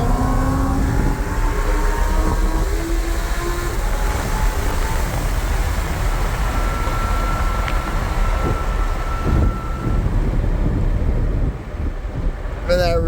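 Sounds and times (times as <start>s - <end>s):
thin steady tone: 0.0s - 10.5s
car engine at speed: 0.0s - 12.7s
road and wind noise: 0.0s - 13.0s.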